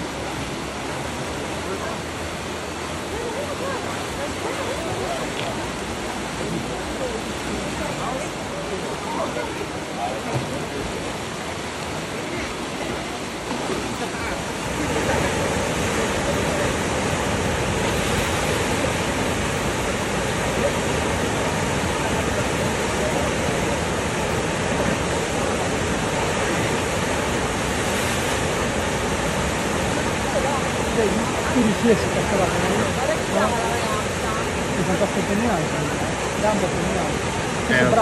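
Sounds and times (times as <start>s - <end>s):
whitewater rushing: 0.0s - 38.0s.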